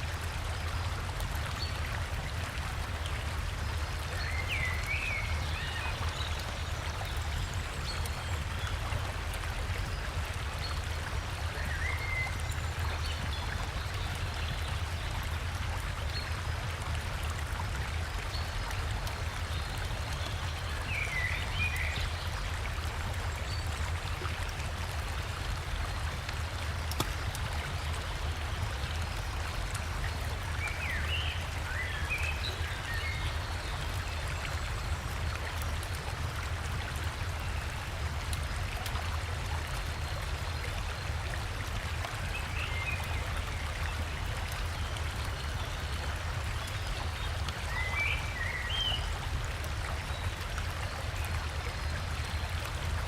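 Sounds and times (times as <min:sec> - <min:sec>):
river water rushing and splashing: 0:00.0 - 0:53.0.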